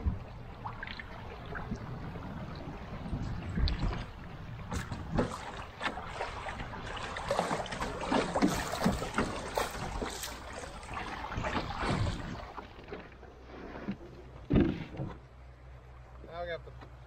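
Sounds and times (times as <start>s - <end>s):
water rushing and splashing: 0.0s - 15.2s.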